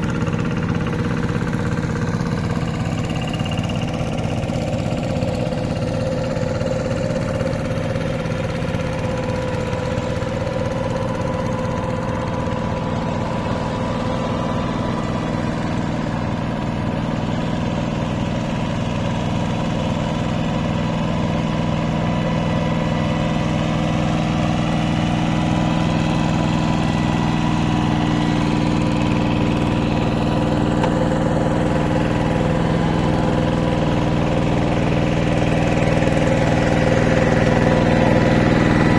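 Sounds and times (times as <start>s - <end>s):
hand tractor engine running: 0.0s - 38.9s.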